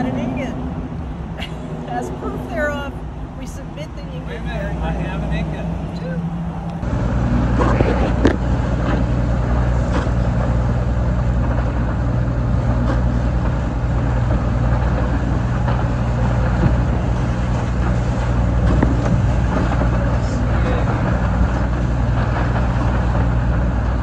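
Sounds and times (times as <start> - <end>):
boat diesel engine running: 0.0 - 24.0
wind: 0.0 - 24.0.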